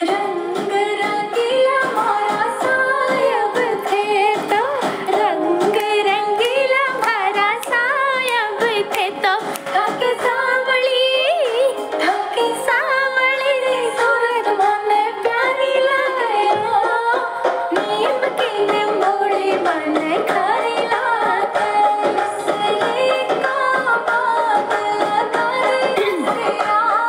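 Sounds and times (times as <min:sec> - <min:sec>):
song accompaniment: 0:00.0 - 0:27.0.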